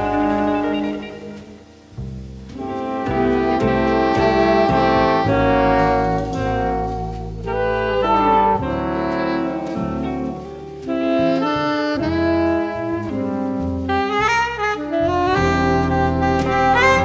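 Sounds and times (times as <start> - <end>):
band playing live: 0.0 - 17.0.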